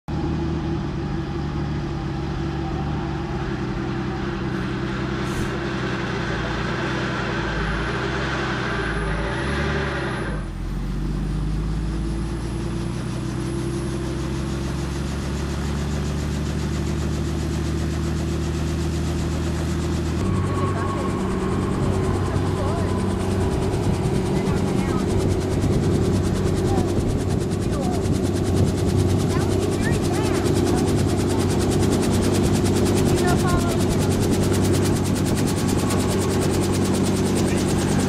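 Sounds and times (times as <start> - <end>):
helicopter engine and rotor hum: 0.1 - 38.0.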